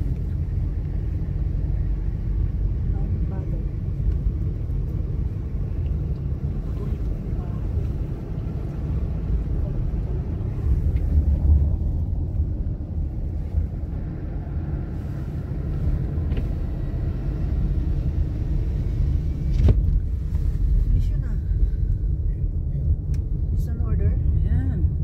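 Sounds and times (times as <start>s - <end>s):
car engine and tyres on snow: 0.0s - 25.0s.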